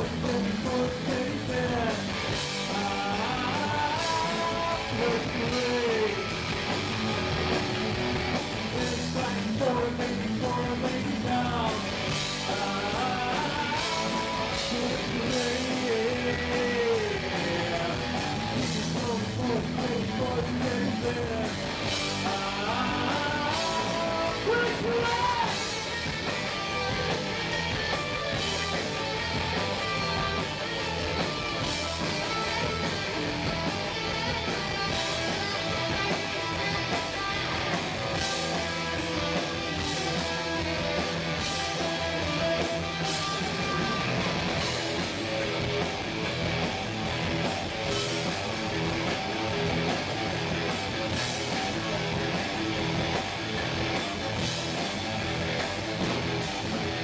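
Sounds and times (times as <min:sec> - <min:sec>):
electric guitar strumming: 0:00.0 - 0:10.7, 0:20.4 - 0:57.0
steady drum beat: 0:00.0 - 0:57.0.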